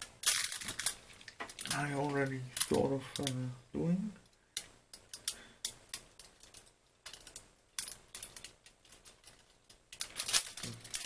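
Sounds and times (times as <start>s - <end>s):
small parts clicking and tapping: 0.0s - 3.5s, 4.2s - 11.0s.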